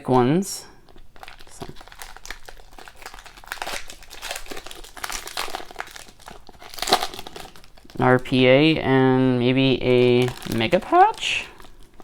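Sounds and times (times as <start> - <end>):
plastic wrapper crinkling: 0.8 - 12.0.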